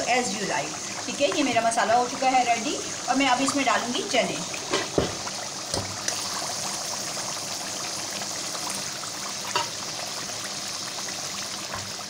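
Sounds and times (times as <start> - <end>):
gravy bubbling and sizzling: 0.0 - 12.0.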